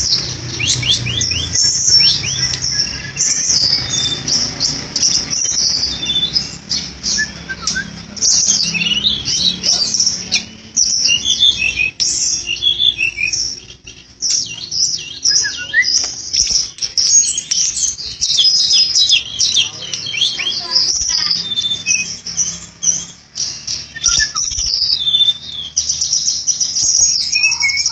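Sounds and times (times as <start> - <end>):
bird chirping and twittering: 0.0 - 27.9
bird whistled notes: 0.6 - 27.9.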